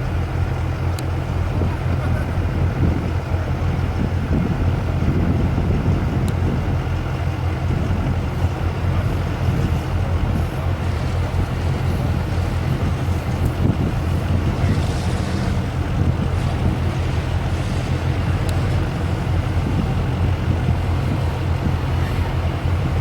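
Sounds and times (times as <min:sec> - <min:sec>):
truck engine rumbling: 0:00.0 - 0:23.0
wind noise on microphone: 0:01.2 - 0:23.0.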